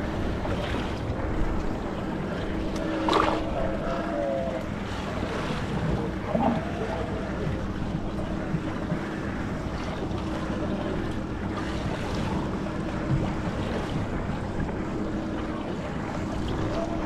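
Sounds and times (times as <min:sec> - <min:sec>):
steady low hum: 0:00.0 - 0:17.0
water lapping around boat: 0:00.0 - 0:17.0.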